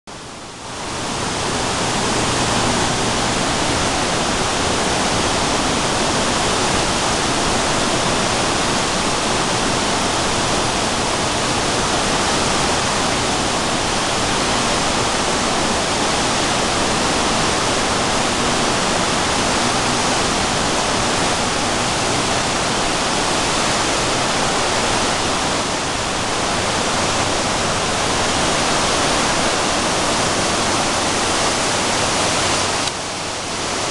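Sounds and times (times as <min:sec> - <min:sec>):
waterfall roaring: 0:00.1 - 0:33.9
water churning in rapids: 0:00.2 - 0:33.9.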